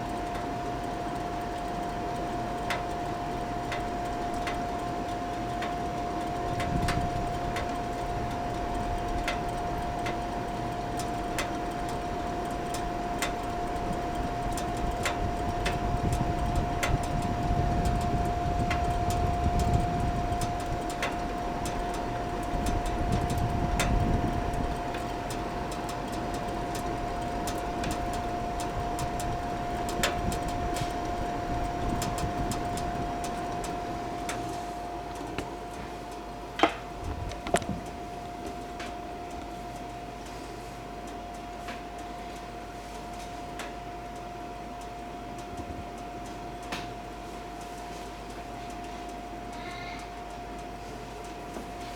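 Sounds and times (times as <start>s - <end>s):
heater burner whine: 0.0s - 51.9s.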